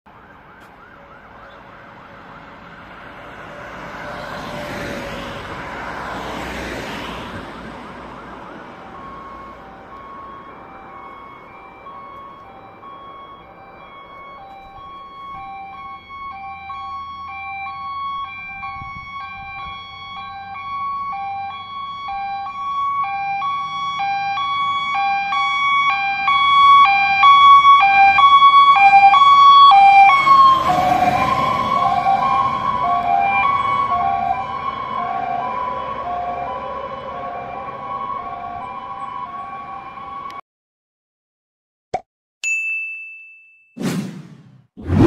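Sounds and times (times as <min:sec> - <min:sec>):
engine and tyre noise: 0:00.1 - 0:40.4, 0:44.2 - 0:45.0
fire engine two-tone siren: 0:00.1 - 0:40.4.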